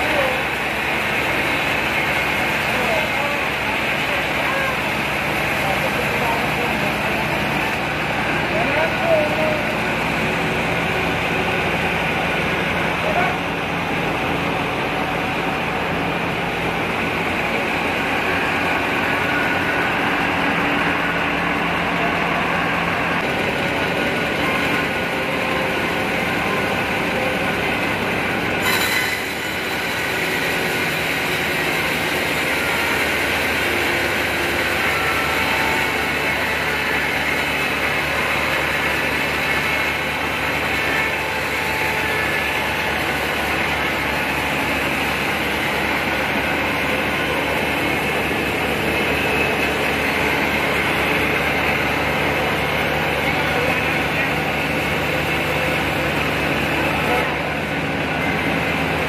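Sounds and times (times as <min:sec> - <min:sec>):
band saw cutting through log: 0:00.0 - 0:59.0
saw drive hum: 0:00.0 - 0:59.0.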